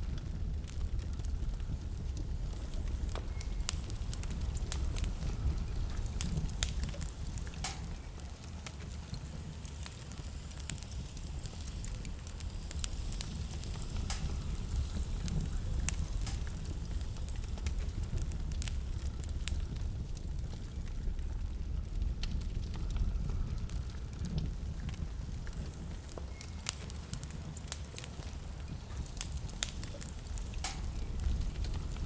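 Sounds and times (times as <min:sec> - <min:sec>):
burning wood crackling and popping: 0:00.0 - 0:32.0
low rumble of flames: 0:00.0 - 0:32.0.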